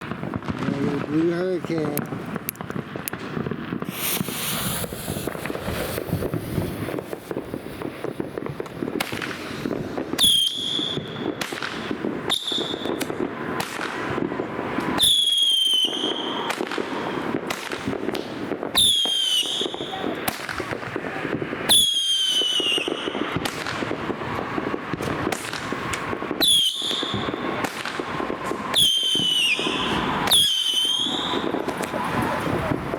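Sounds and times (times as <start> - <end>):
firework crackling hiss: 0.0 - 32.9
firework shrill whistles: 3.8 - 14.2, 14.8 - 17.8, 18.6 - 32.9.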